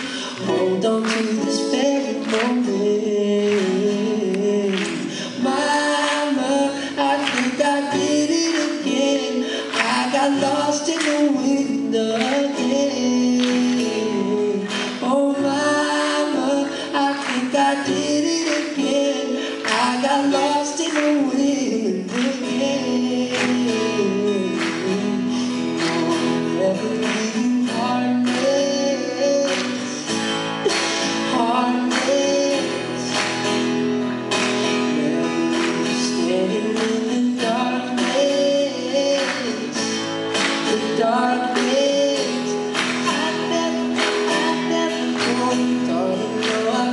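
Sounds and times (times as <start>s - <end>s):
acoustic guitars strummed: 0.0s - 46.9s
man singing: 0.0s - 46.9s.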